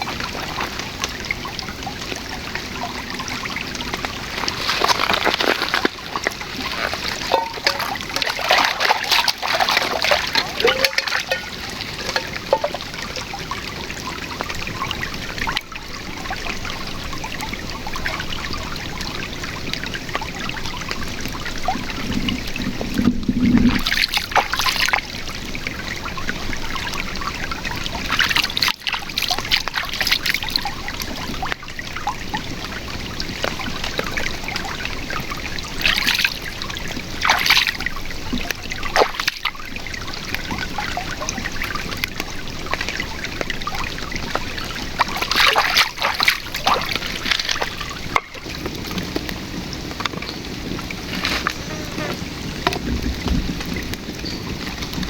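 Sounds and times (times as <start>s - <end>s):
shallow river babbling: 0.0s - 23.0s, 23.7s - 55.0s.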